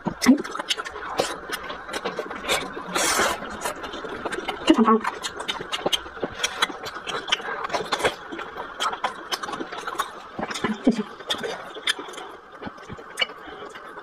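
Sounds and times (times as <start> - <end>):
wet chewing clicks and smacks: 0.0 - 14.0.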